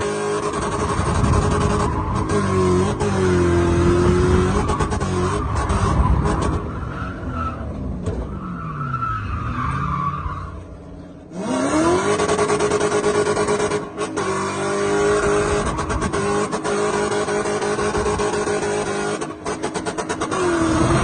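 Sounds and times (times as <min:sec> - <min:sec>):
car engine revving: 0:00.0 - 0:09.7, 0:10.4 - 0:21.0
tyres skidding: 0:00.0 - 0:21.0.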